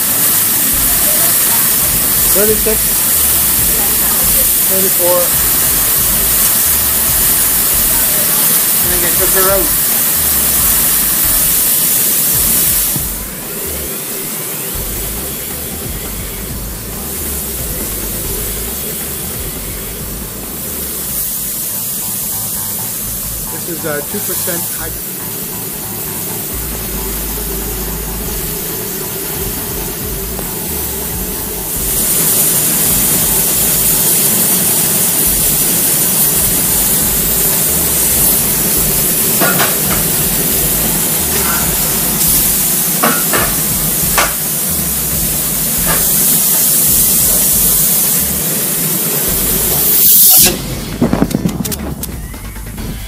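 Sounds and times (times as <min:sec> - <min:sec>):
steam sterilizer hissing: 0:00.0 - 0:53.0.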